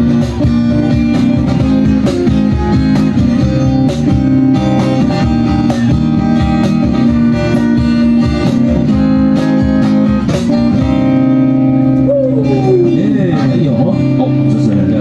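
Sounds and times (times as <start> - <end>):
acoustic guitars strumming: 0.0 - 15.0
cajon beat: 0.0 - 15.0.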